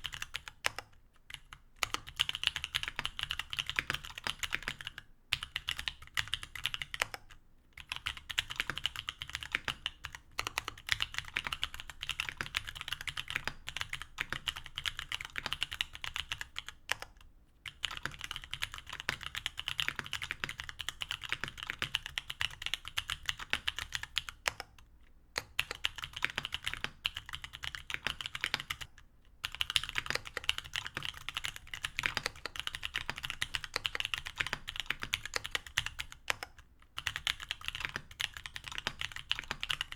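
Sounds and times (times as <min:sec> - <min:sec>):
mechanical keyboard typing: 0:00.0 - 0:24.8, 0:25.4 - 0:39.9.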